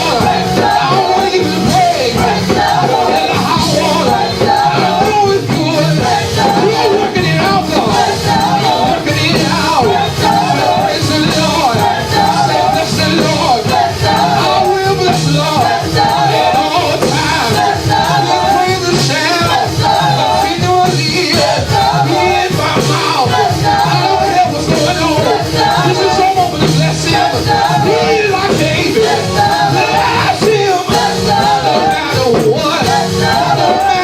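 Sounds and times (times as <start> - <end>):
band playing a steady beat: 0.0 - 34.0
voices singing: 0.0 - 34.0.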